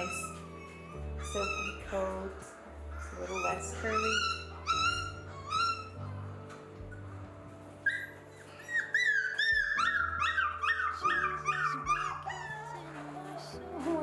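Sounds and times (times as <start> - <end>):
puppy whining: 0.0 - 14.0.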